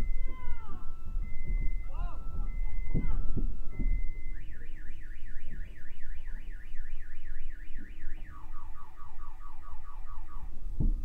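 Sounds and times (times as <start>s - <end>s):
car alarm: 0.0s - 11.0s.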